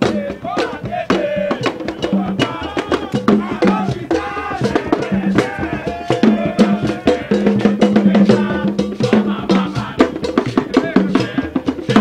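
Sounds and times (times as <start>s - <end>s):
fast drum and wood-block percussion: 0.0s - 12.0s.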